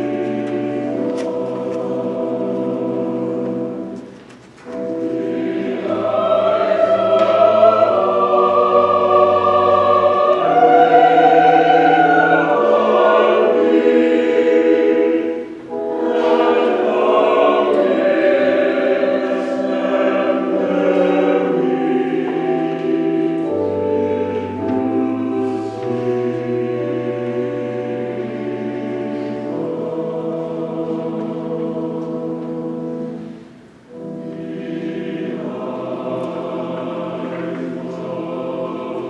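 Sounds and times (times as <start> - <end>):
church choir singing: 0.0 - 39.0.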